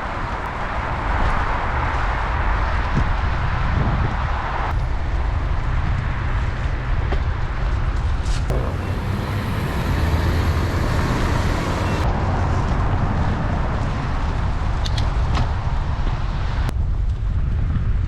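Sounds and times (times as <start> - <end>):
road and tyre noise: 0.0 - 18.0
wind buffeting microphone: 0.0 - 18.0.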